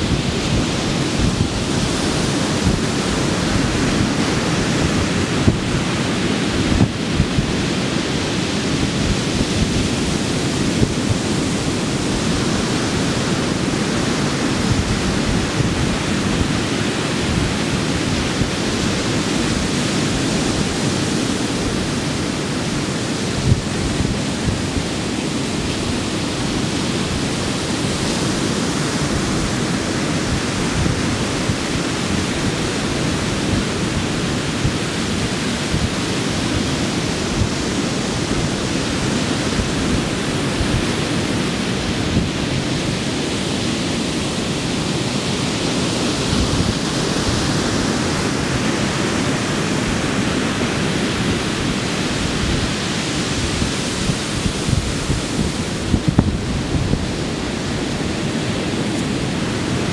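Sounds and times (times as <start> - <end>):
surf washing up a beach: 0.0 - 59.9.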